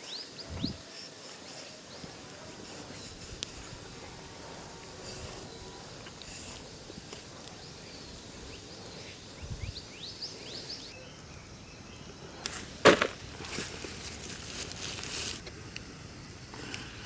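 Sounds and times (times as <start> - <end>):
forest ambience: 0.0 - 17.0.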